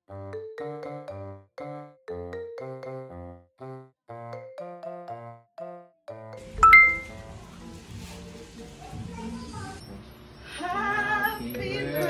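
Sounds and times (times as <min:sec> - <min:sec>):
music: 0:00.1 - 0:12.0.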